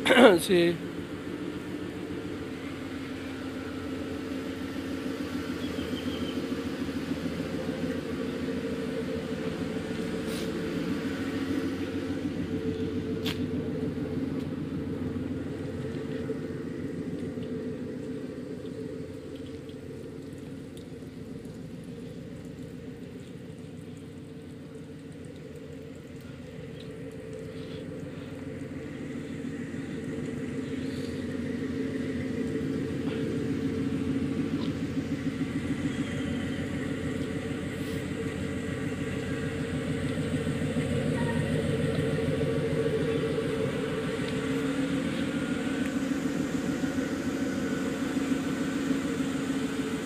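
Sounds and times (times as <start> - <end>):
engine idling: 0.0 - 50.0.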